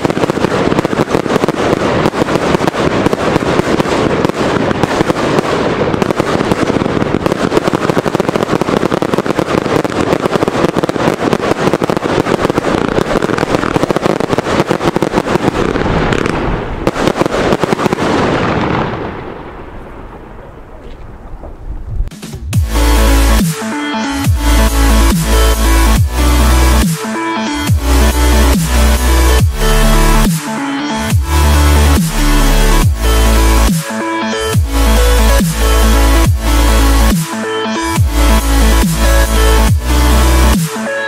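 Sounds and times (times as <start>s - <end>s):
fireworks crackling: 0.0s - 41.0s.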